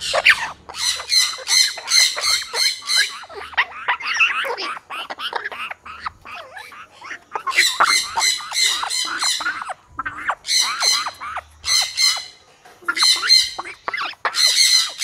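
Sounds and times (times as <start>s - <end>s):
parrots squawking: 0.0s - 15.0s.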